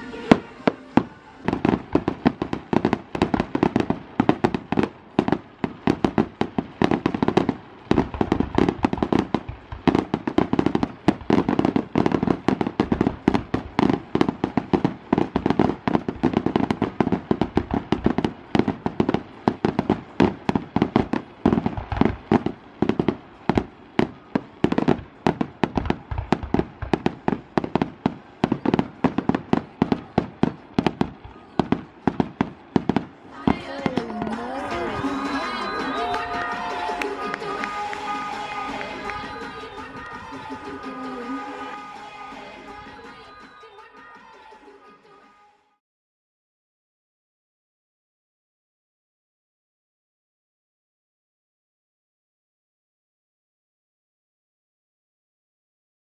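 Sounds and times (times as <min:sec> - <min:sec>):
fireworks launching and bursting: 0:00.0 - 0:45.4.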